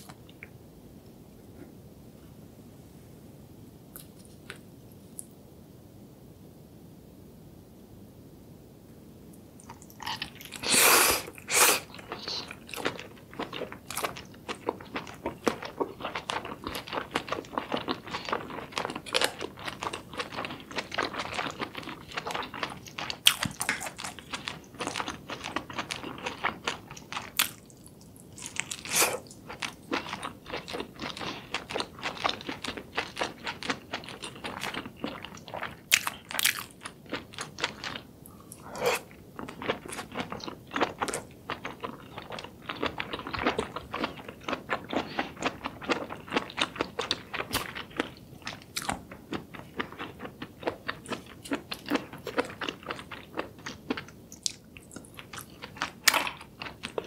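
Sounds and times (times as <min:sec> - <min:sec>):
chewing and biting food: 0:09.7 - 0:57.0.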